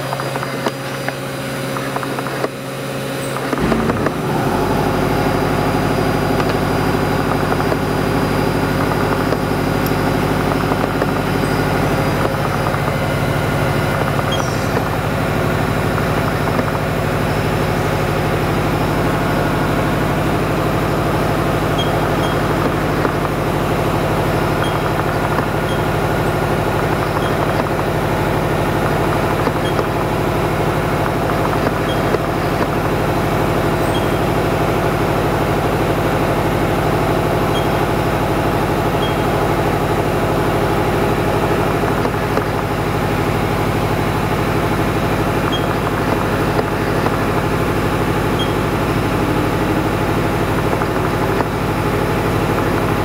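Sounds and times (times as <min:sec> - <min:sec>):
milling machine humming: 0:00.0 - 0:53.0.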